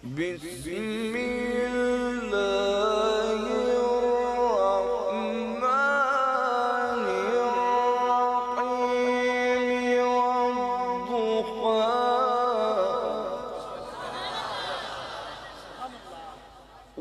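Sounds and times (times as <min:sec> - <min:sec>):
man chanting recitation: 0:00.0 - 0:13.9.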